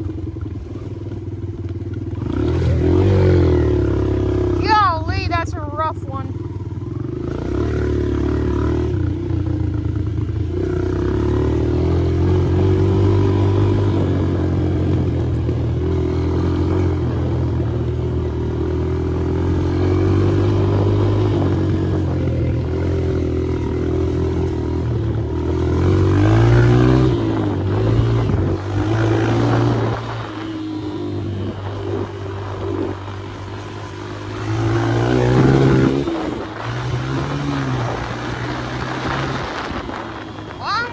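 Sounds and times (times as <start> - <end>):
dirt bike engine revving: 2.0 - 40.9.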